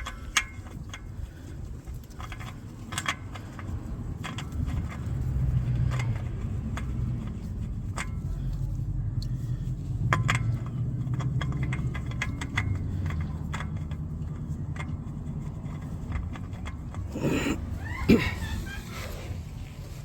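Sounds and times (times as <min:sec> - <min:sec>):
oil filter and tools clicking: 0:00.0 - 0:18.8.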